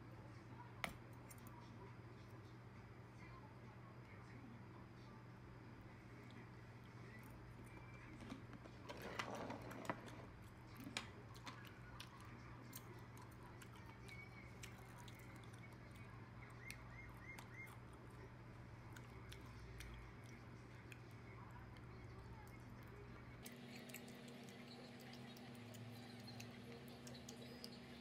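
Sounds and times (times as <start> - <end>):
steady low hum: 0.0 - 28.0
soft chewing: 0.2 - 28.0.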